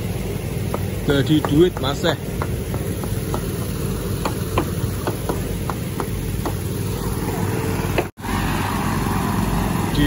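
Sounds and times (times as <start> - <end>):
water pump engines running: 0.0 - 10.0.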